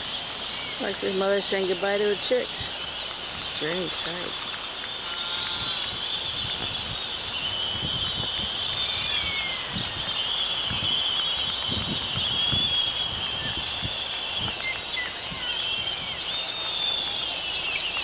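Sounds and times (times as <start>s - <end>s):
seabird colony calling: 0.0s - 18.0s.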